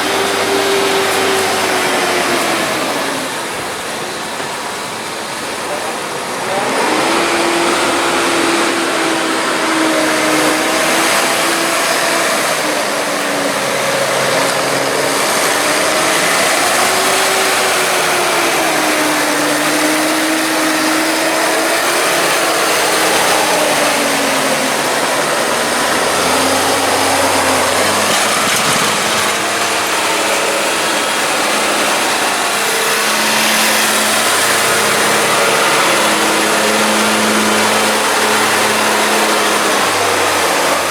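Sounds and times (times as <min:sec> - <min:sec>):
steady mechanical noise: 0:00.0 - 0:40.9
tractor engine revving: 0:00.0 - 0:40.9.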